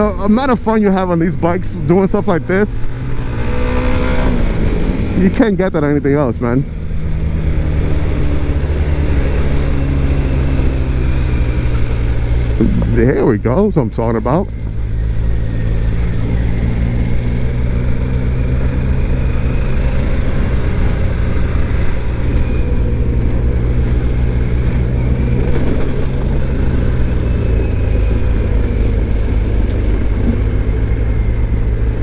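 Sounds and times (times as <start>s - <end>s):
motorcycle engine rumbling: 0.0s - 32.0s.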